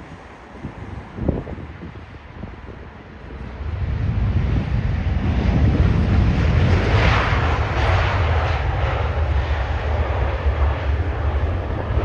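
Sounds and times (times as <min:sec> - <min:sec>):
jet engine roar: 0:00.0 - 0:12.0
steady low rumble: 0:00.0 - 0:12.0.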